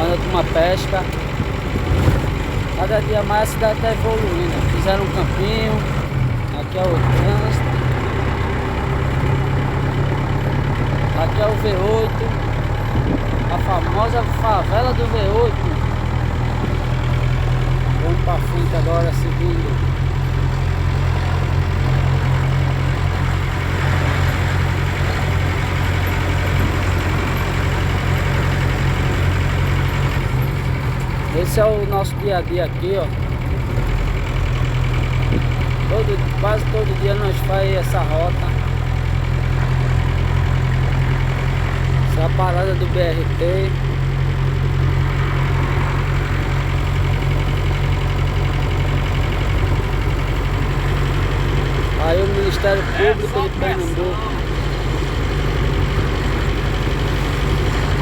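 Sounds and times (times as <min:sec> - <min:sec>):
vehicle engine rumbling: 0:00.0 - 0:58.0.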